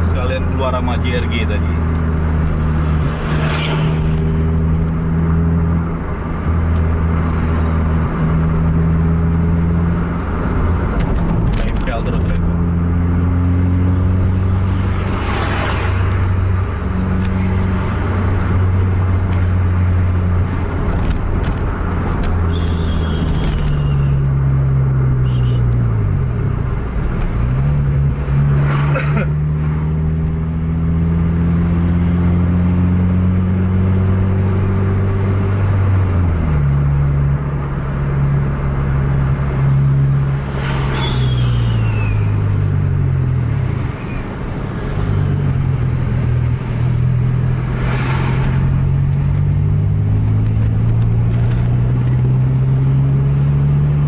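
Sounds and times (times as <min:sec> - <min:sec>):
car engine from inside cabin: 0:00.0 - 0:54.0
passing traffic whooshing: 0:00.0 - 0:54.0.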